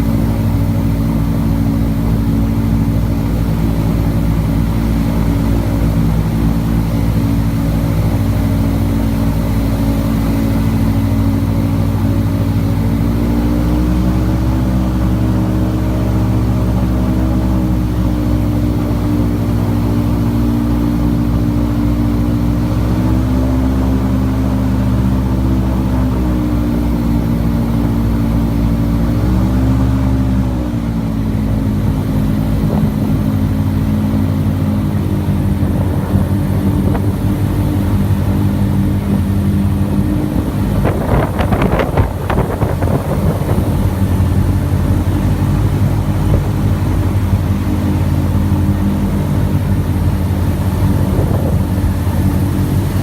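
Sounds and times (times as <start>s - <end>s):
airboat engine and propeller: 0.0s - 53.0s.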